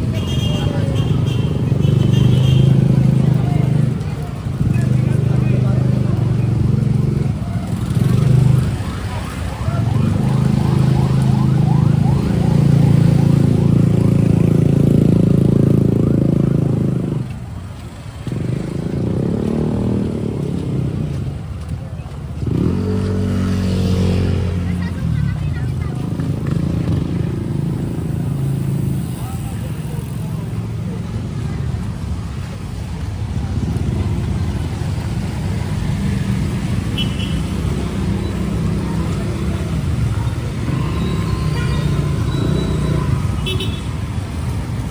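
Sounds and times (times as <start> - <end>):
city traffic rumble: 0.0 - 44.9.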